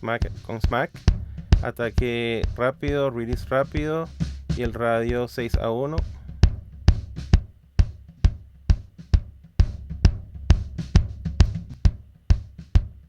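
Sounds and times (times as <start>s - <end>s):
bass drum hits: 0.0s - 4.8s, 5.6s - 13.0s
snare drum: 0.0s - 13.0s.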